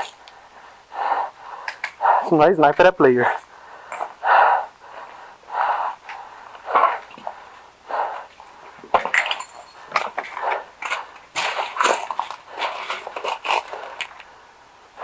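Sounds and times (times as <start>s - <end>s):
person breathing hard: 0.0s - 2.5s, 3.1s - 15.0s
rustling: 0.0s - 15.0s.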